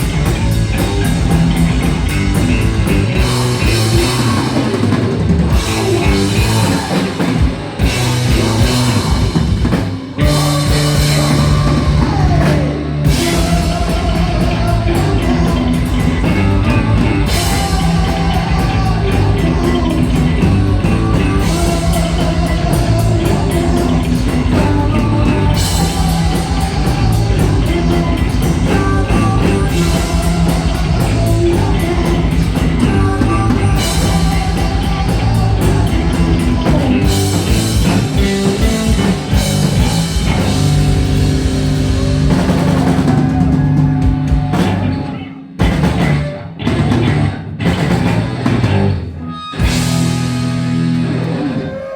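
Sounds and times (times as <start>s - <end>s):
metal band playing: 0.0s - 51.9s.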